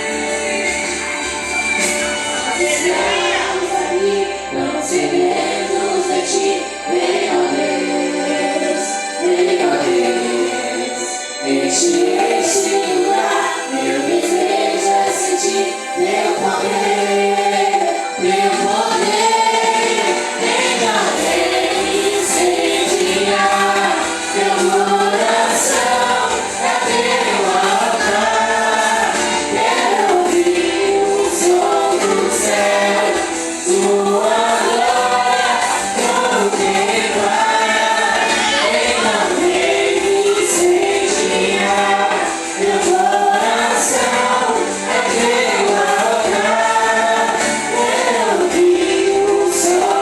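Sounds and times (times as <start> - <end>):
band accompaniment: 0.0 - 13.6, 16.8 - 50.0
group singing gospel in chorus: 0.0 - 50.0.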